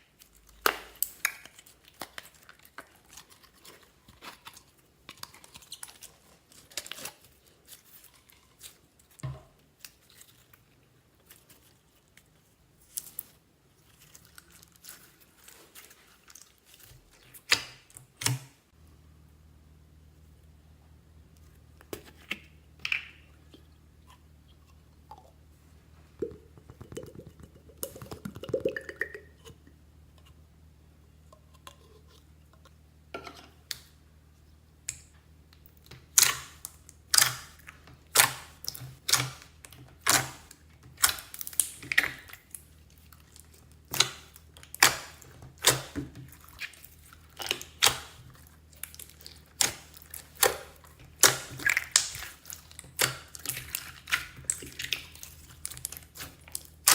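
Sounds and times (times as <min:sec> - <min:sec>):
slime squishing: 0:00.0 - 0:18.5, 0:21.4 - 0:30.5, 0:34.8 - 0:56.9.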